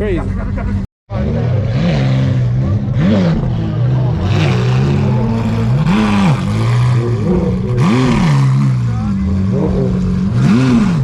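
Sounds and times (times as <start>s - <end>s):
sports car engine idling and revving: 0.0s - 11.0s.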